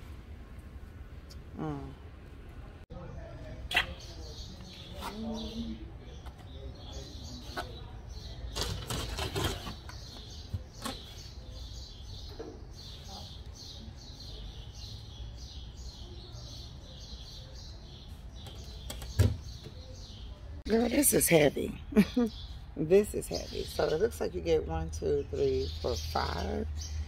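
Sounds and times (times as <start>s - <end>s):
bird chirping: 3.0s - 27.0s.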